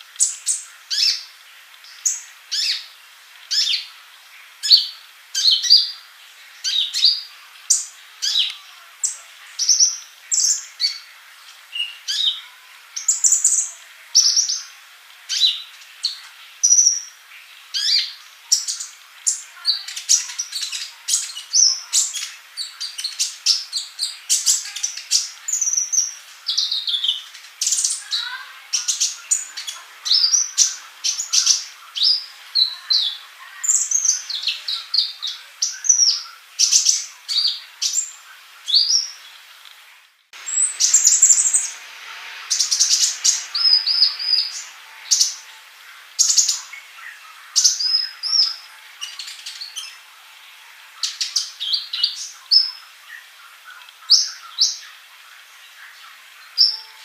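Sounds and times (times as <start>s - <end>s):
sunbird chirps and trills: 0.0s - 39.5s, 40.4s - 57.0s.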